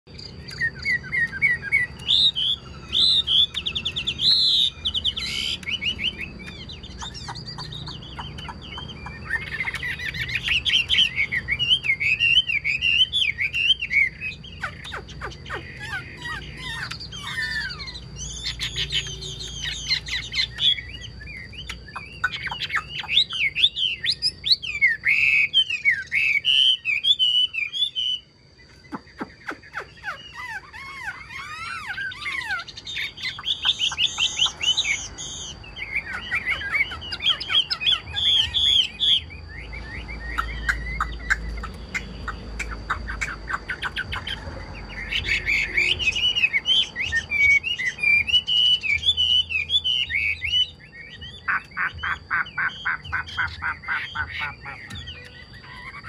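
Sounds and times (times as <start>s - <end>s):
bird singing whistled phrases: 0.1s - 56.0s.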